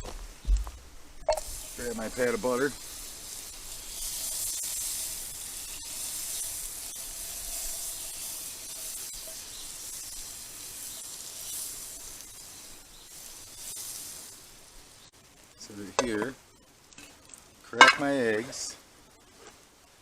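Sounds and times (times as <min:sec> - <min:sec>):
butter sizzling in a pan: 0:01.2 - 0:20.0.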